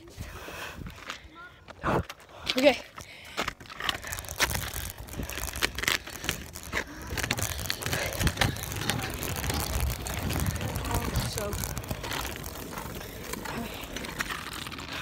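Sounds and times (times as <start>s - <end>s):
scooter wheels rolling on snow: 0.0s - 15.0s.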